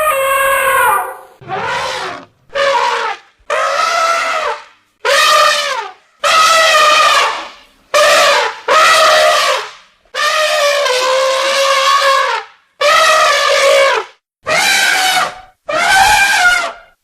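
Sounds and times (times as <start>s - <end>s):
elephant trumpeting: 0.0s - 17.0s.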